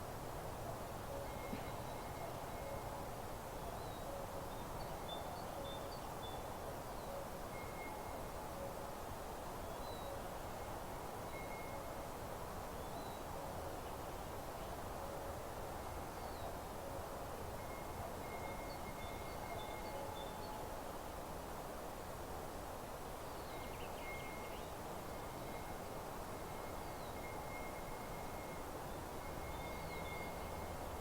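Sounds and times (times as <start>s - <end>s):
soft steady hiss: 0.0s - 31.0s
faint birdsong: 0.5s - 12.0s, 12.7s - 21.1s, 23.0s - 31.0s.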